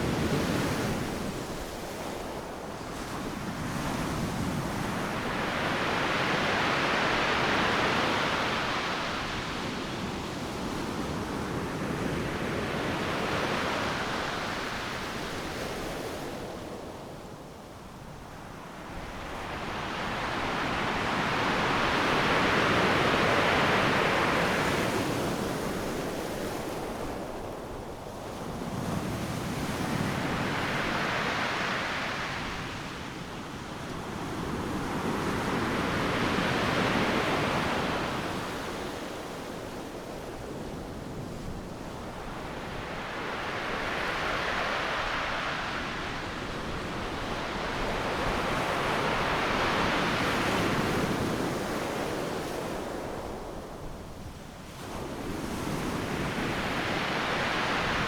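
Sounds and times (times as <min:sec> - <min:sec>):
ocean surf breaking on a beach: 0:00.0 - 0:58.0.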